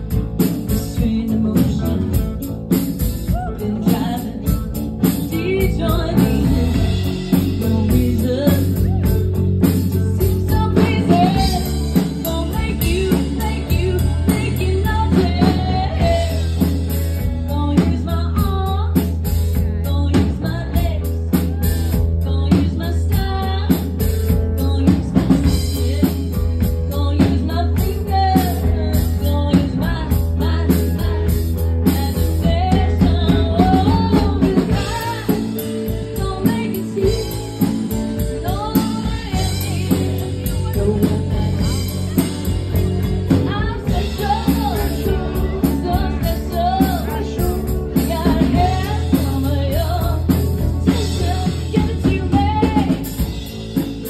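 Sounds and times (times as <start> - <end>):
bass guitar: 0.0 - 54.0
drum kit: 0.0 - 54.0
electric guitar: 0.0 - 54.0
woman singing: 0.0 - 54.0.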